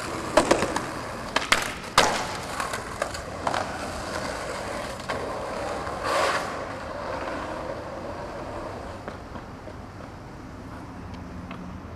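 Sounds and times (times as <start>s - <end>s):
skateboard wheels rolling on asphalt: 0.0s - 11.9s.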